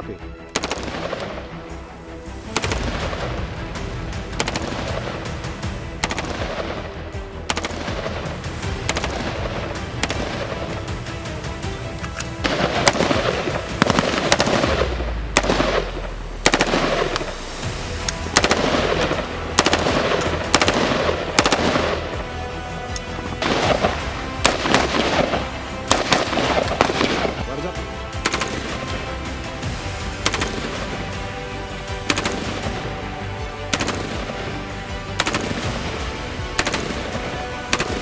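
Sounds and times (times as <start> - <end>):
background music: 0.0 - 38.0
rifle gunshots: 0.5 - 1.6, 2.4 - 38.0.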